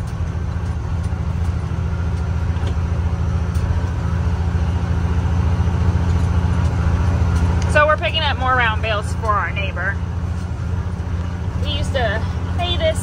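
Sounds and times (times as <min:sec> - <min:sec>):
road noise: 0:00.0 - 0:13.0
vehicle engine under load: 0:00.0 - 0:13.0.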